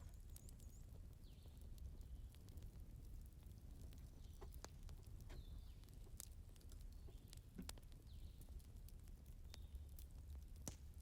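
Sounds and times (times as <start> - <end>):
firewood crackling: 0.0 - 11.0.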